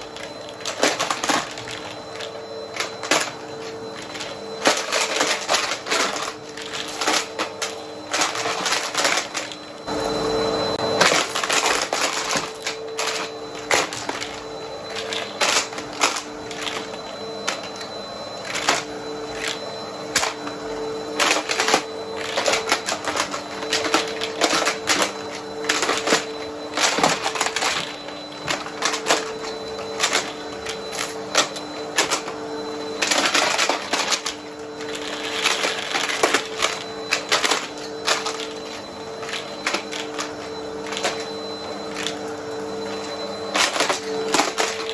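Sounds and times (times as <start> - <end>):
coins clattering through vacuum: 0.0 - 44.9
vacuum cleaner humming: 0.0 - 44.9.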